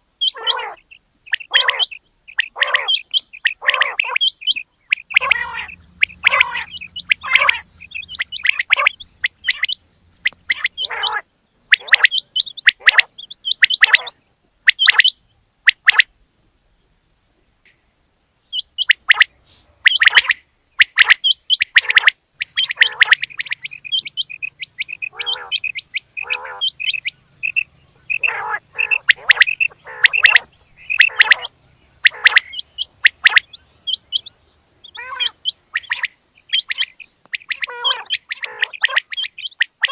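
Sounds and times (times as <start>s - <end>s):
quail calling: 0.0s - 16.1s, 18.5s - 39.9s.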